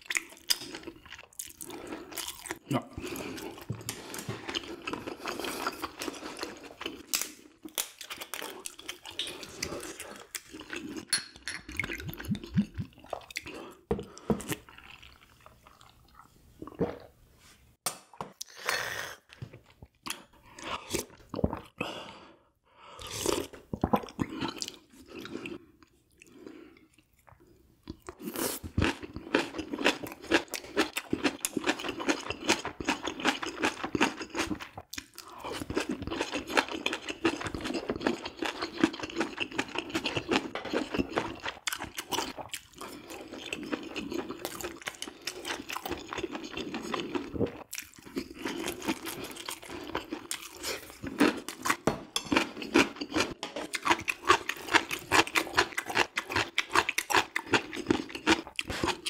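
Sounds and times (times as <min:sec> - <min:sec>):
chewing and crunching food: 0:00.0 - 0:17.1, 0:23.0 - 0:59.0.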